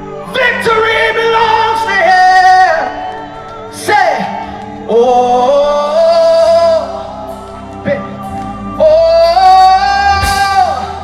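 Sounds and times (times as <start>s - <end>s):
bass: 0.0s - 11.0s.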